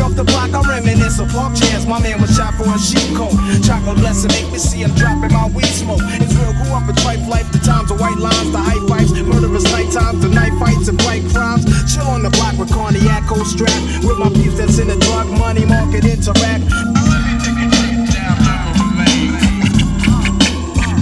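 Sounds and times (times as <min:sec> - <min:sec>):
rapping over a beat: 0:00.0 - 0:21.0.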